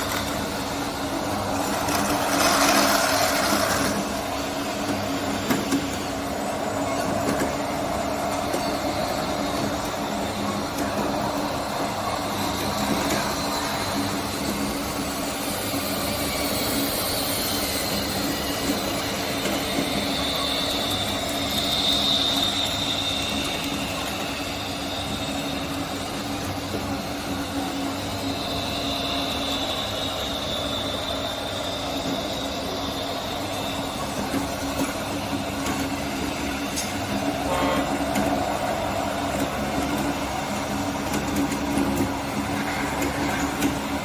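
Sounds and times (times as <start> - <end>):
electric motors humming: 0.0 - 44.0
high motor whine: 0.0 - 44.0.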